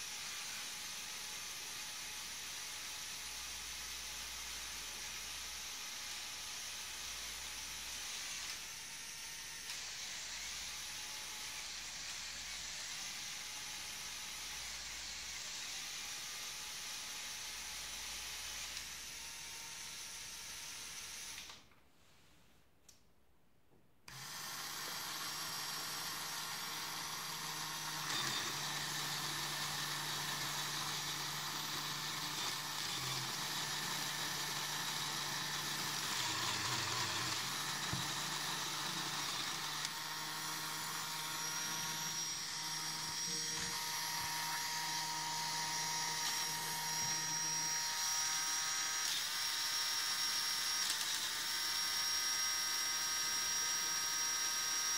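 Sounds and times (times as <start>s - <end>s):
small electric motor whirring: 0.0s - 21.6s, 24.1s - 54.9s.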